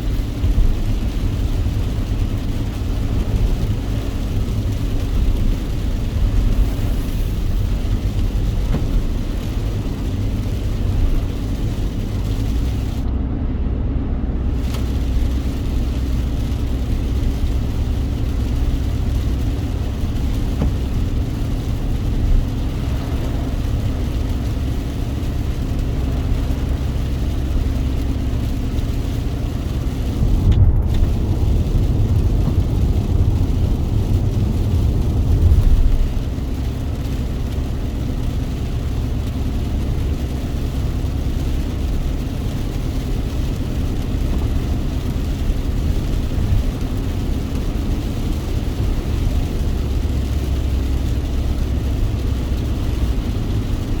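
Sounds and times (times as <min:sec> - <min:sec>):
rain hiss: 0:00.0 - 0:13.1, 0:14.2 - 0:54.0
car driving in rain: 0:00.0 - 0:54.0.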